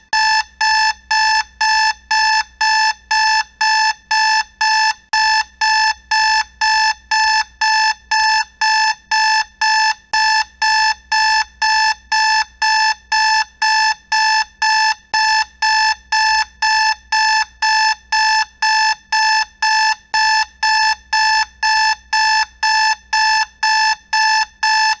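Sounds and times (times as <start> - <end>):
alarm clock beeping: 0.2 - 25.0.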